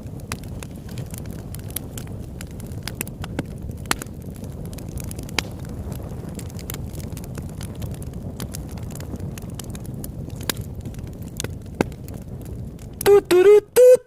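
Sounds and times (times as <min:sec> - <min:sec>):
low fire rumble: 0:00.0 - 0:13.9
wood crackling and popping: 0:00.0 - 0:14.0.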